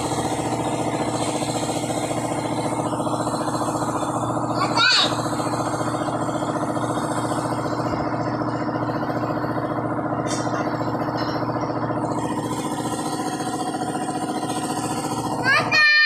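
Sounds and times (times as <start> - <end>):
motor humming with pulse: 0.0 - 16.0.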